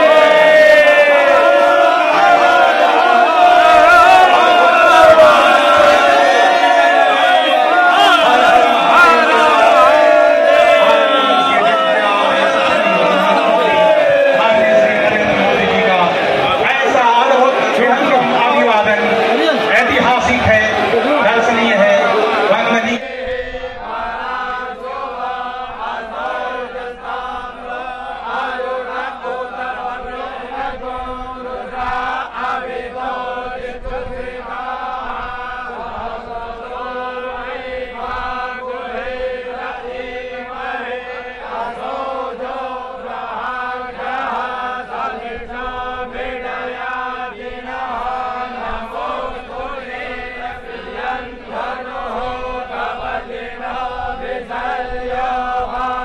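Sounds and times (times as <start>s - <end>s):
men chanting: 0.0s - 56.0s.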